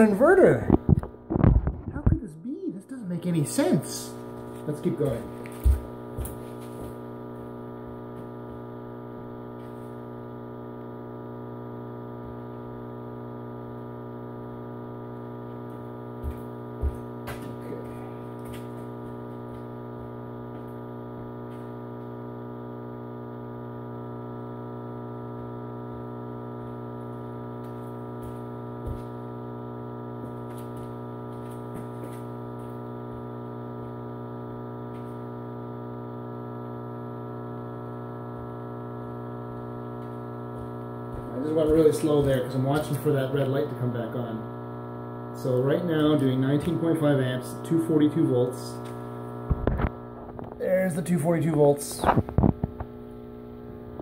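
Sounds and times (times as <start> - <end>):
inverter humming: 0.0 - 54.0.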